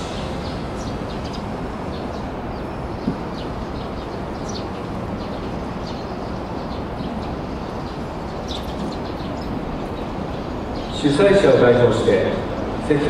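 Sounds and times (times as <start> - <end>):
outdoor background rumble and hiss: 0.0 - 13.0.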